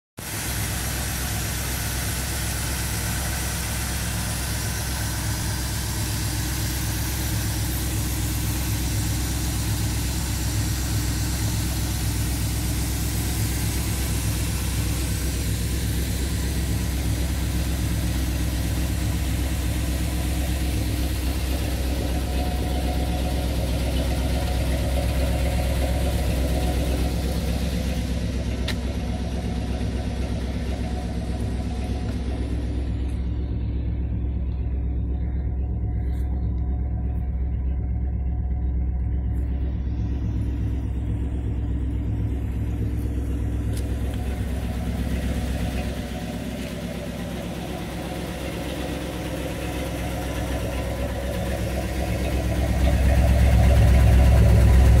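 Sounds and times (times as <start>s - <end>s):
pickup truck engine idling: 0.2s - 55.0s.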